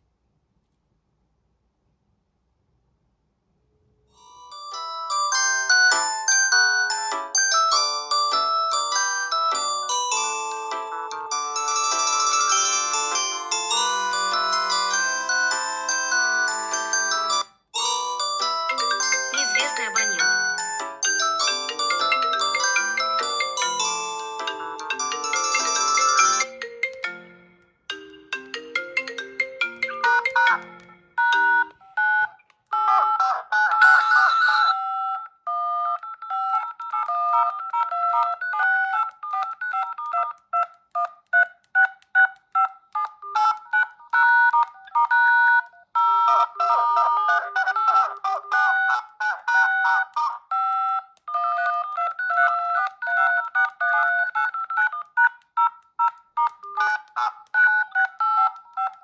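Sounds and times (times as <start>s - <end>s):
phone ringtone melody: 4.2s - 41.5s, 42.2s - 59.0s.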